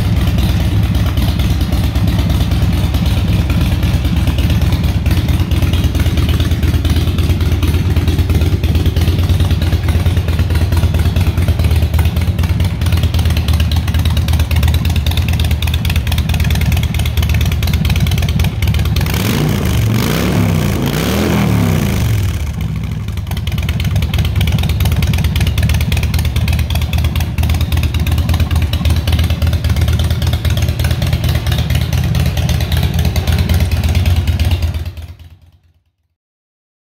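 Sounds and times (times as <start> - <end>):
motorcycle engine revving: 0.0 - 35.4
motorcycle engine idling: 0.0 - 36.0.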